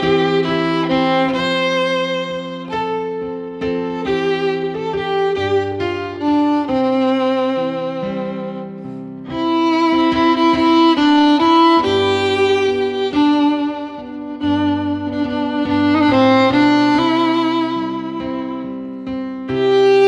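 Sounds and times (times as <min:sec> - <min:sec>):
violin melody over strings: 0:00.0 - 0:20.0.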